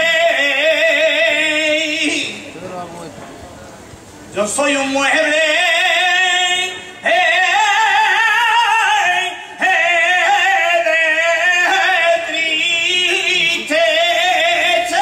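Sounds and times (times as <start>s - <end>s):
man singing flamenco: 0.0s - 2.4s, 4.3s - 15.0s.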